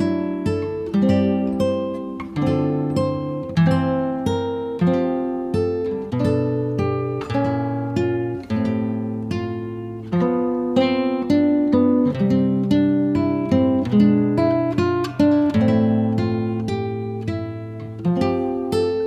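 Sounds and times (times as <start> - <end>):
acoustic guitar plucked chords: 0.0 - 19.0.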